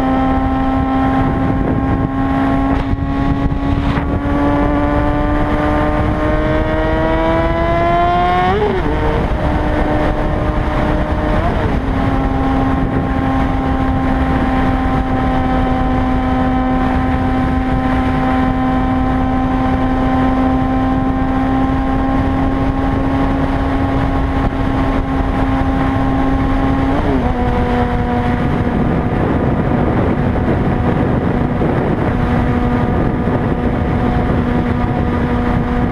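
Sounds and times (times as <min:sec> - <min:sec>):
motorcycle engine running: 0:00.0 - 0:35.9
wind rushing over microphone: 0:00.0 - 0:35.9.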